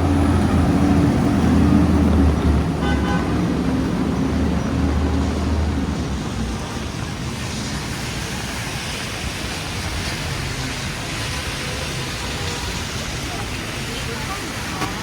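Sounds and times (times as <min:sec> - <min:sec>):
faint traffic rumbling: 0:00.0 - 0:15.0
steady rain on street: 0:00.0 - 0:15.0.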